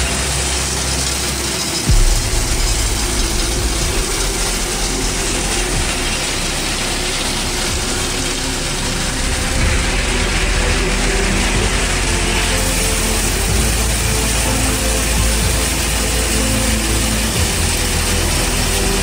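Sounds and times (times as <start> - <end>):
loud mechanical din: 0.0 - 19.0
low hum: 0.0 - 19.0.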